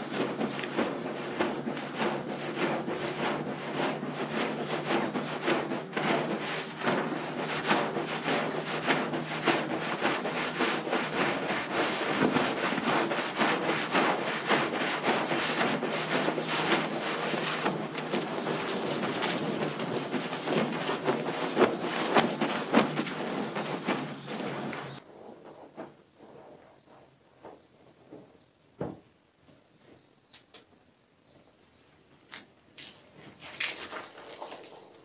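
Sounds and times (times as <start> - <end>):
brush scrubbing wet carpet: 0.0 - 27.7, 32.3 - 35.0
steady low hum: 0.0 - 30.2.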